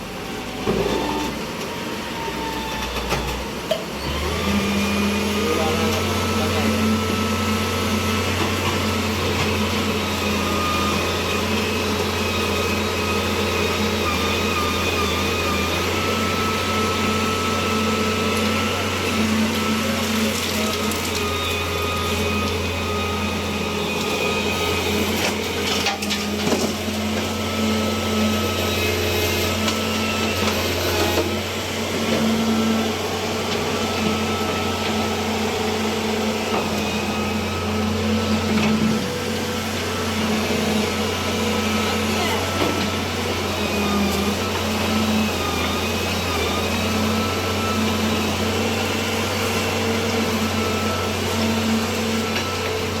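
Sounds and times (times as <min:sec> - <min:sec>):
road cutting machine engine hum: 0:00.0 - 0:53.0.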